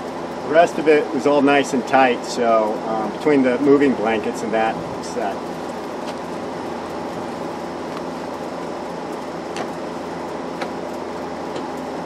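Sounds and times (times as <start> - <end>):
air conditioning unit humming: 0.0 - 12.0.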